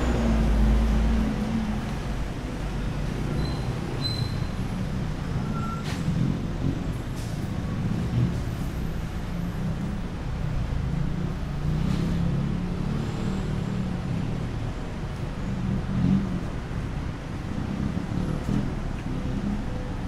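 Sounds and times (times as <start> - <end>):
car and bus engines: 0.0 - 20.0.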